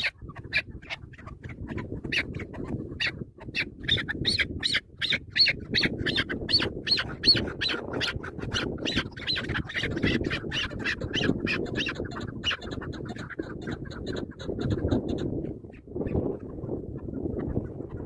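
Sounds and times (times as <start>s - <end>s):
partridge calling harsh notes: 0.0s - 15.2s.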